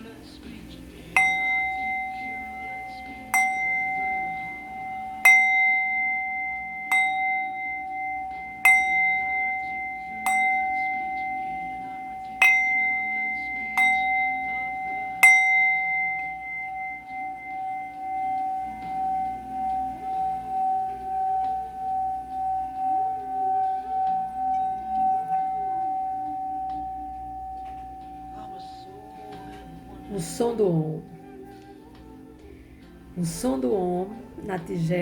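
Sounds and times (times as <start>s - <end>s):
singing bowl ringing: 1.0s - 31.5s.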